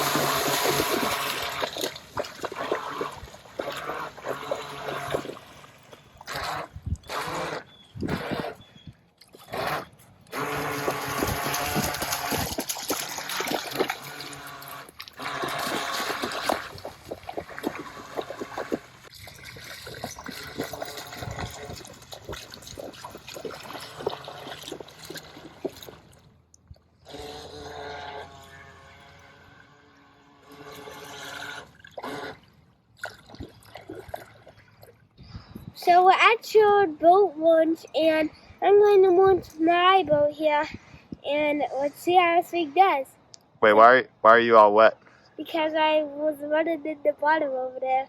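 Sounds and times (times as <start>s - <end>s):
water splashing and trickling: 0.0s - 29.6s, 30.4s - 42.1s.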